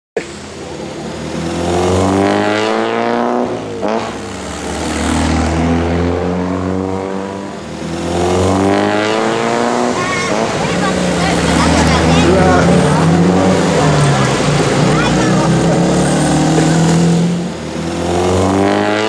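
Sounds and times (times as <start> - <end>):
sports car engine revving: 0.2 - 19.0.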